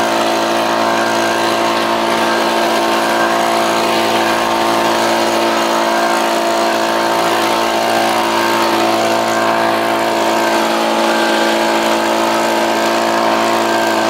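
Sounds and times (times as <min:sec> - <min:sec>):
leaf blower whining: 0:00.0 - 0:14.0.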